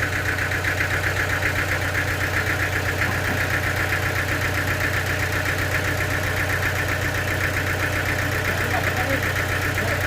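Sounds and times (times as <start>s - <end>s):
sawmill machinery humming: 0.0s - 10.0s.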